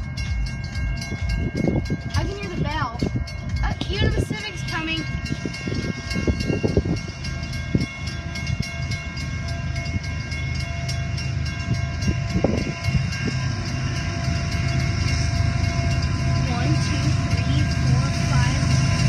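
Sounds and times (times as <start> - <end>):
low rumble: 0.0 - 19.0
railroad crossing bell ringing: 0.0 - 19.0.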